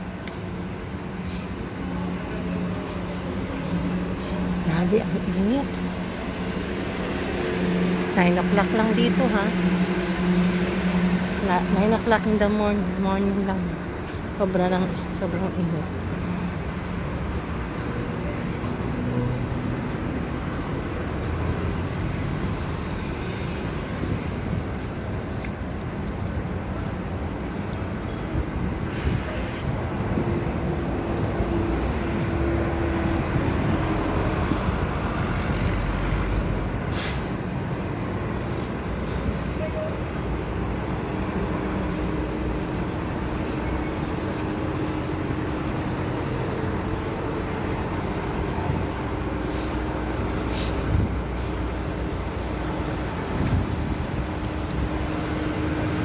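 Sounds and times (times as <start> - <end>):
bus passing: 0.0 - 56.0
passing cars: 0.0 - 56.0.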